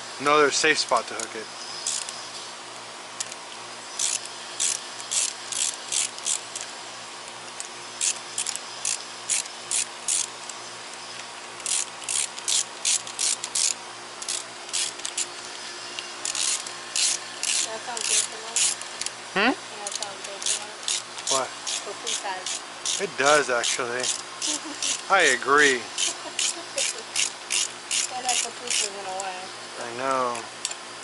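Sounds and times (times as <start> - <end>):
ratchet wrench clicking: 0.9 - 2.2, 3.2 - 3.4, 4.0 - 6.7, 7.3 - 19.2, 19.8 - 29.4, 30.3 - 30.8.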